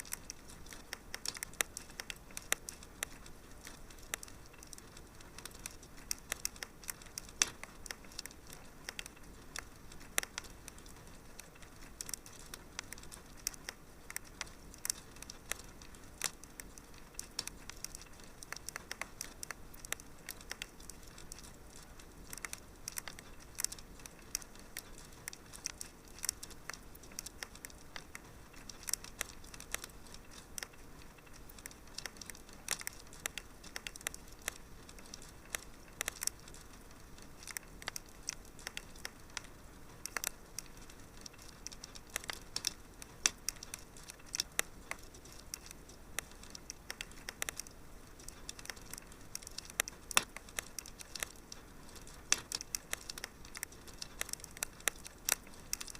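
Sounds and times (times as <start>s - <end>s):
fire crackling: 0.0s - 55.9s
soft steady hiss: 0.0s - 55.9s.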